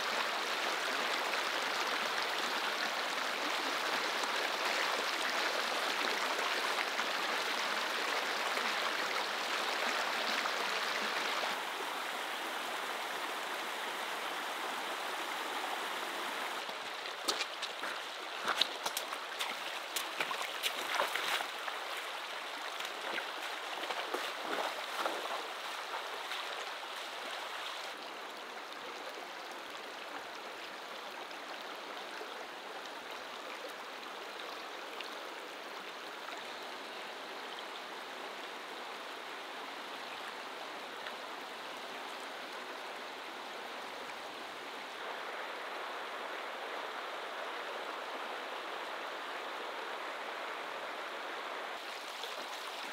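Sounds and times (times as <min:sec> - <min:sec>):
river running over rocks: 0:00.0 - 0:52.9.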